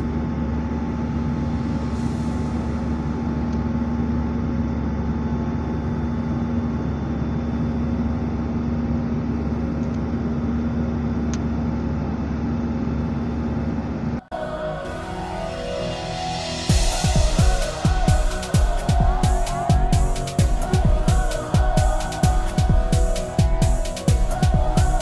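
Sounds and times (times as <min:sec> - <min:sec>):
airliner cabin engine drone: 0:00.0 - 0:25.0.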